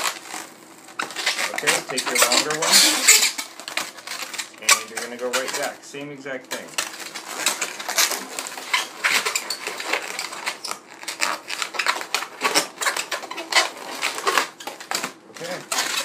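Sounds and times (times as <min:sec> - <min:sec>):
balloons squeaking and rubbing: 0:00.0 - 0:16.0.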